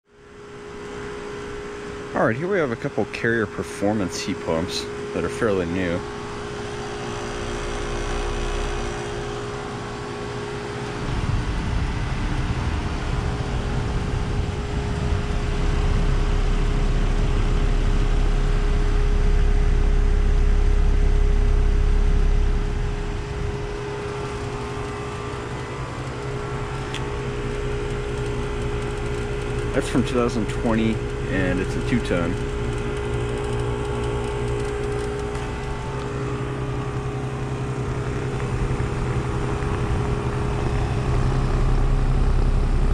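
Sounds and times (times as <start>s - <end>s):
heat pump fan and compressor hum: 0.0s - 42.9s
low rumble: 4.8s - 42.9s.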